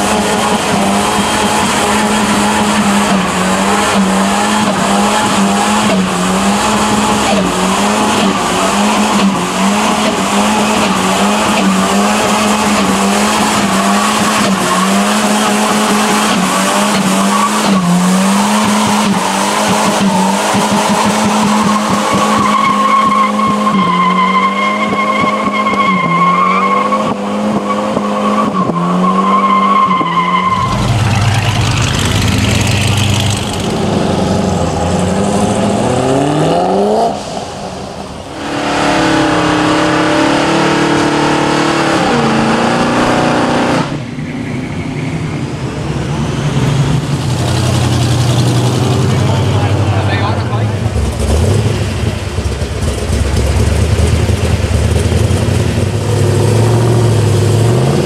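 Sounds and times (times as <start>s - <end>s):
car engine revving high: 0.0s - 44.1s, 45.8s - 58.0s
tyres skidding and screeching: 0.0s - 58.0s.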